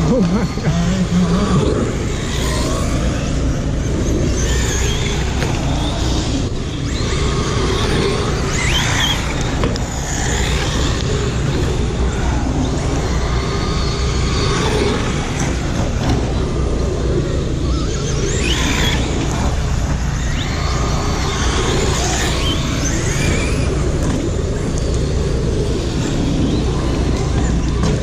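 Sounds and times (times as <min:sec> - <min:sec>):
rc car motor whine: 0:00.0 - 0:28.0
steady low rumble: 0:00.0 - 0:28.0.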